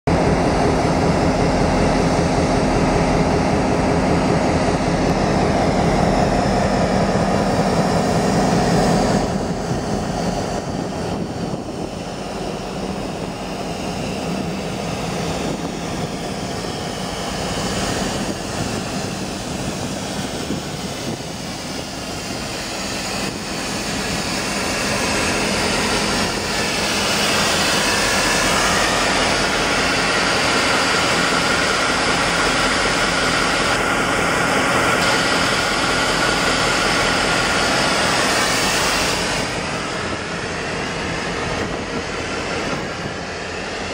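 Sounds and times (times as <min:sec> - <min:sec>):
diesel locomotives idling: 0:00.1 - 0:43.9.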